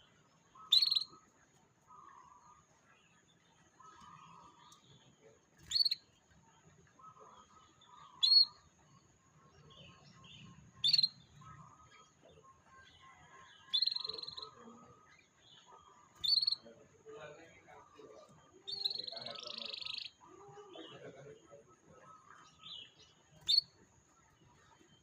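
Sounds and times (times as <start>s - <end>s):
canary chirps and trill: 0.0s - 25.0s
quieter low chirping: 0.0s - 25.0s.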